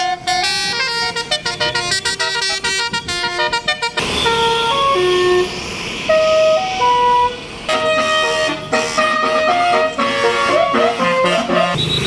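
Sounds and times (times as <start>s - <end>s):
bus horn playing a melody: 0.0s - 12.0s.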